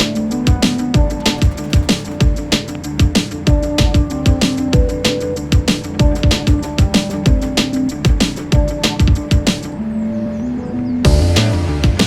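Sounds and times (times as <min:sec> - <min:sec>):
electronic music with drum beat: 0:00.0 - 0:10.3, 0:11.0 - 0:12.0.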